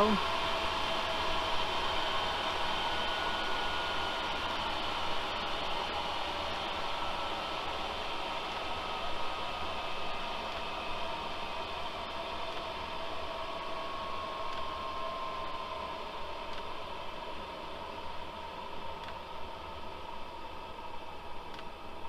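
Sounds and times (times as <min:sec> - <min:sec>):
fan whine: 0:00.0 - 0:22.0
heater blower fan running: 0:00.0 - 0:22.0.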